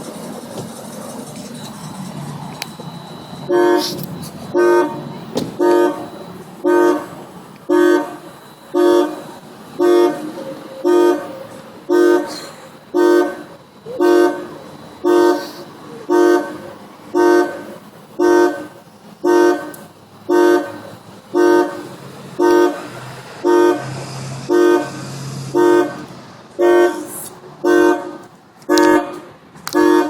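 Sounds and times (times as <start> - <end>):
car alarm horn honking: 2.7 - 30.0.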